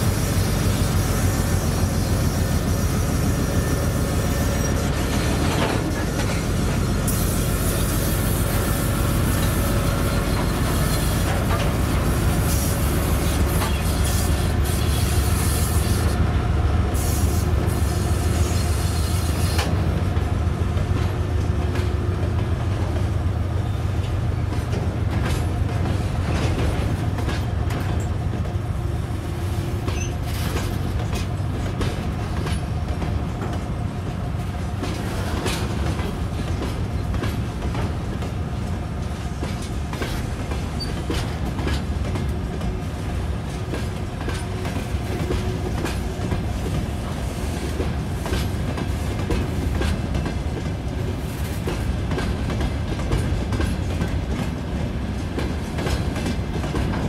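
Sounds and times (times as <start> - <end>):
diesel locomotive passing: 0.0 - 57.0.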